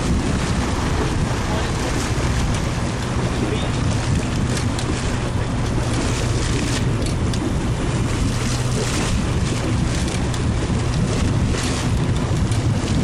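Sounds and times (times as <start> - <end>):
boat engine humming: 0.0 - 13.0
wind and sea hiss: 0.0 - 13.0.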